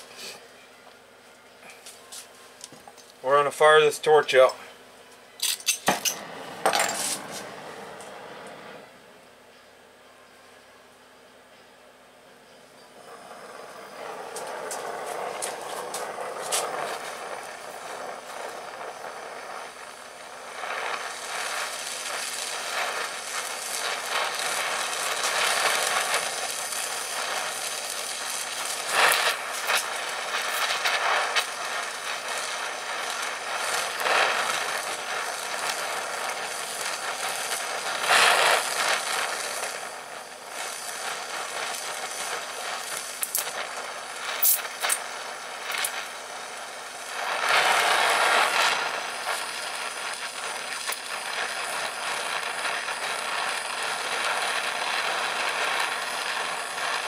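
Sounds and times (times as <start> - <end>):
gas torch flame hissing: 0.0 - 0.5, 1.6 - 4.8, 5.4 - 9.2, 12.8 - 57.0.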